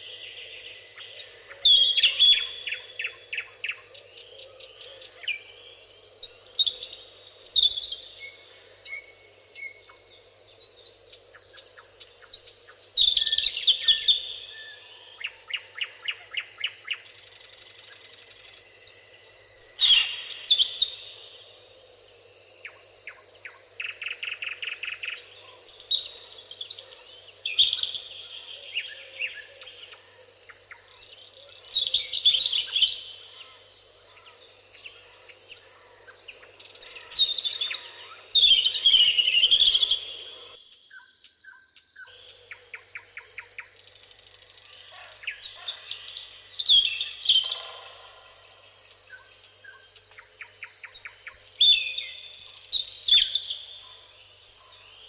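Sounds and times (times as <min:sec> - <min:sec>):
songbirds singing and trilling: 0:00.0 - 0:55.0.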